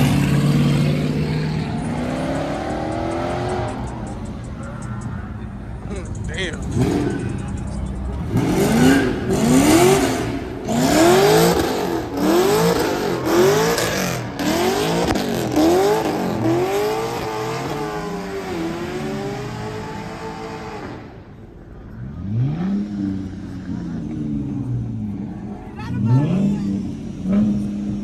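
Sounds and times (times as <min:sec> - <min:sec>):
car engine revving hard: 0:00.0 - 0:04.6, 0:06.2 - 0:21.2, 0:21.9 - 0:28.0.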